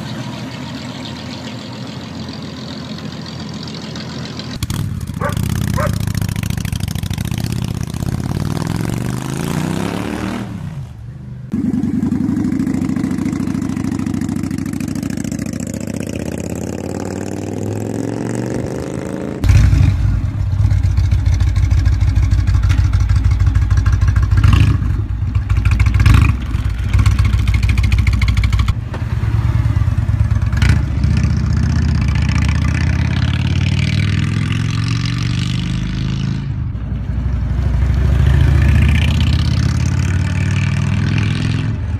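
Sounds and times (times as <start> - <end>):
motorcycle pulling away: 0.0 - 41.9
deep motorcycle exhaust revving: 3.1 - 41.9.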